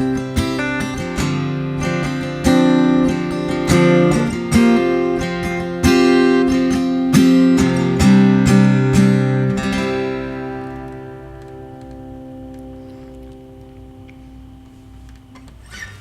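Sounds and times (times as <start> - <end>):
acoustic guitar strumming chords: 0.0 - 15.9.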